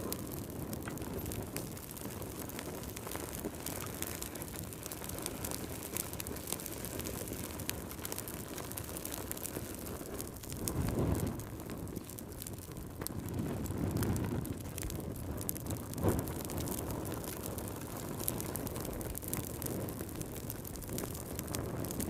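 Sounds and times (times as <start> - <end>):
fire crackling: 0.0 - 22.0
low whoosh of flames: 0.0 - 22.0
pops and snaps of fire: 0.0 - 22.0.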